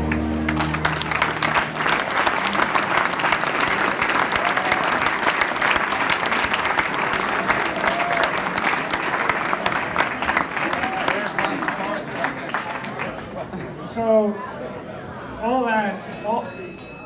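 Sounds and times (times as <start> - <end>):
crowd applauding: 0.0 - 13.7.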